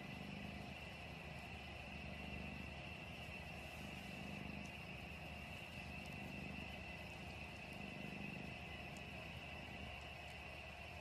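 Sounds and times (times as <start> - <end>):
cat purring: 0.0 - 11.0
faint high whine: 0.0 - 11.0.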